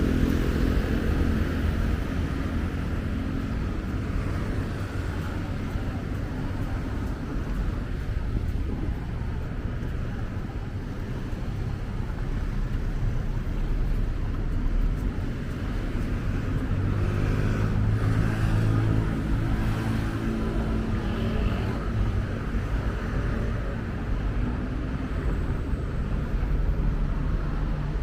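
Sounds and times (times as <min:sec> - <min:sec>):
city street traffic: 0:00.0 - 0:28.0
vehicle engine hum: 0:00.0 - 0:28.0.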